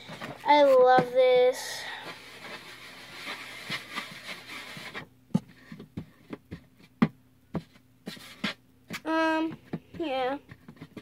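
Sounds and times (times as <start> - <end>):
hands kneading play dough: 0.0 - 11.0.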